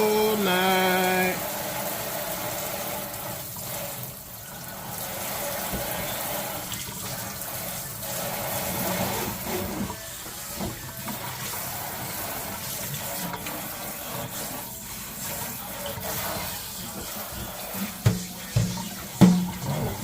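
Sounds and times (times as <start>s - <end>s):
water running into a sink: 0.0s - 20.0s.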